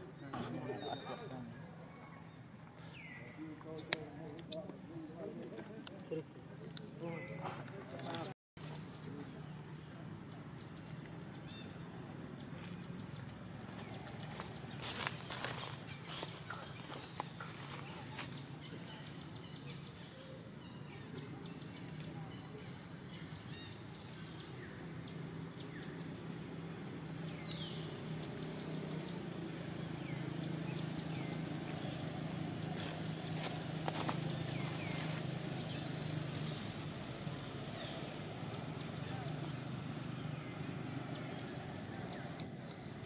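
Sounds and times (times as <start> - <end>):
birds chirping trills: 6.1 - 43.0.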